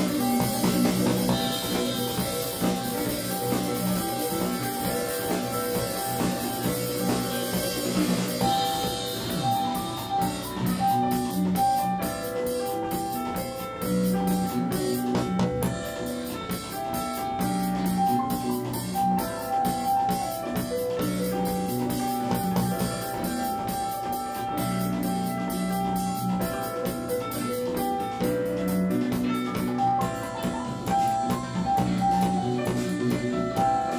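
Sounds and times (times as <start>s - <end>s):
drum kit: 0.0s - 33.9s
guitar: 0.0s - 33.9s
keyboard chords and melody: 0.0s - 33.9s.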